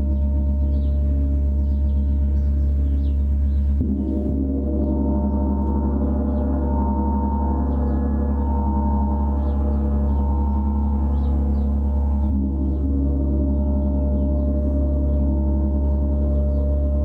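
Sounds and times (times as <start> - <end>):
gong shimmering drone: 0.0 - 17.0.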